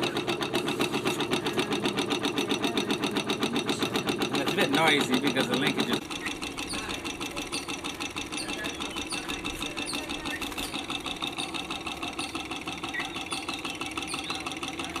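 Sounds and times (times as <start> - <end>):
stirling engine linkage clattering: 0.0 - 15.0.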